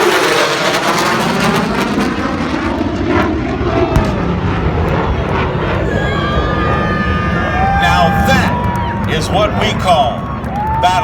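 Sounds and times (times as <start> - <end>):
military jet flying past: 0.0 - 11.0.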